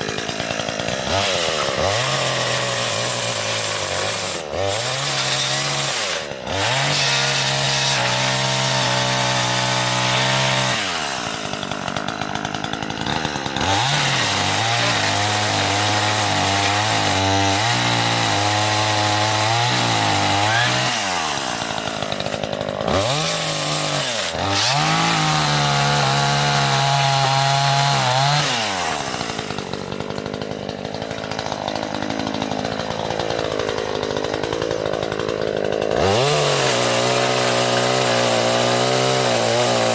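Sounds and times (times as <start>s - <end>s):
chainsaw cutting branches: 0.0s - 39.9s.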